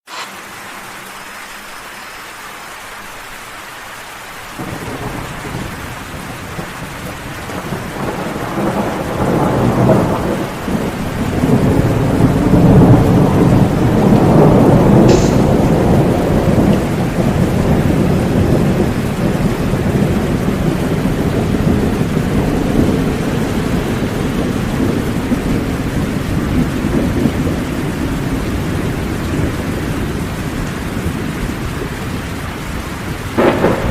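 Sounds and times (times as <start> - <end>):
steady rain: 0.0 - 33.9
thunder rumbling: 4.4 - 33.9.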